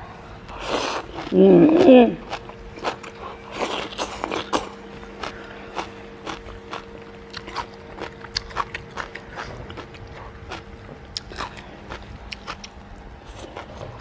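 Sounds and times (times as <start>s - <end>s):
chewing food: 0.5s - 14.0s.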